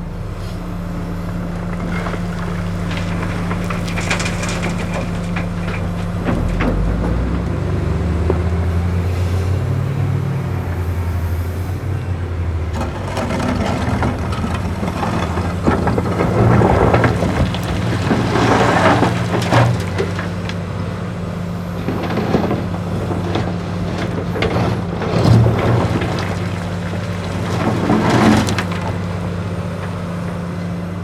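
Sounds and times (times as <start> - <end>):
excavator diesel engine working: 0.0 - 31.0
gravel rattling into dump truck: 0.0 - 31.0.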